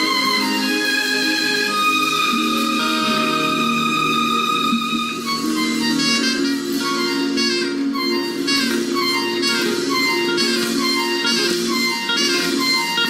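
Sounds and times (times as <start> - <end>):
held chords: 0.0 - 13.0
wind instrument melody: 0.0 - 13.0.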